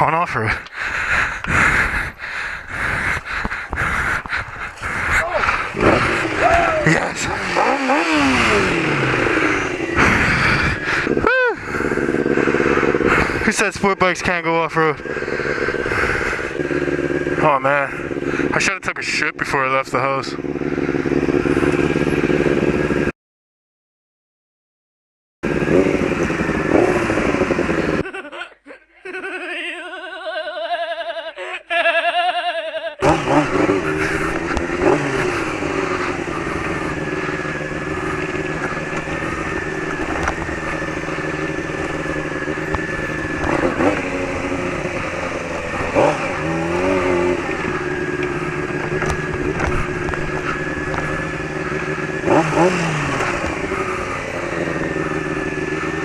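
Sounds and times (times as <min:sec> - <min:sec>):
motorcycle engine revving: 0:00.0 - 0:23.1, 0:25.4 - 0:28.2, 0:33.0 - 0:56.0.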